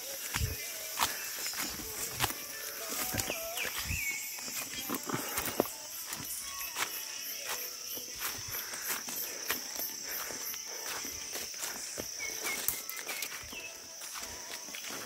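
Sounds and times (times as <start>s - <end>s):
footsteps crunching through dry leaves: 0.0s - 15.0s
high insect drone: 0.0s - 15.0s
pulsing insect chirp: 0.0s - 15.0s.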